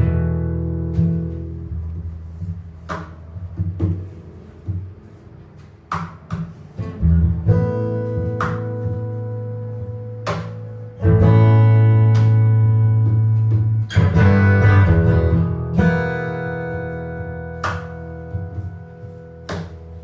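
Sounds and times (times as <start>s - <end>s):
jazz guitar chords: 0.0s - 20.0s.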